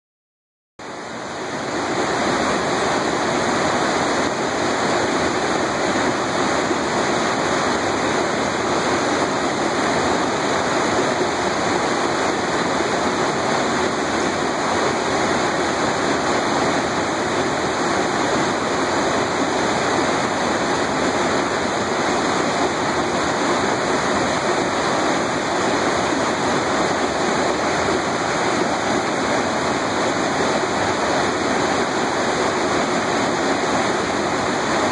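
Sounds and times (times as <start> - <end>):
stream rushing over rocks: 0.8 - 34.9.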